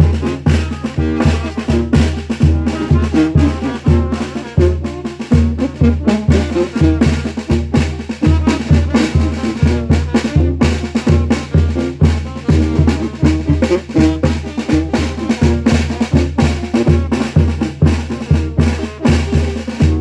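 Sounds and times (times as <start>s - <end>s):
brass band playing: 0.0s - 20.0s
drums: 0.0s - 20.0s.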